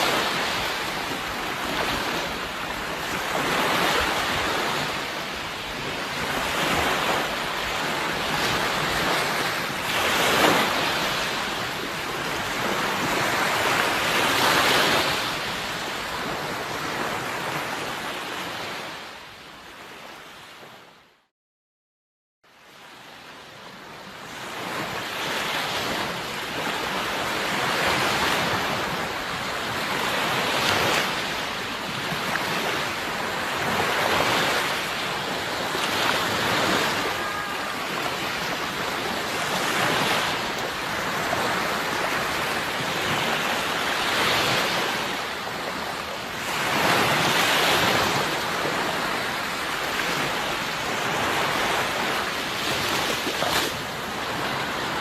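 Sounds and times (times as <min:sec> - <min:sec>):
sea waves washing onto shore: 0:00.0 - 0:19.2, 0:22.8 - 0:55.0.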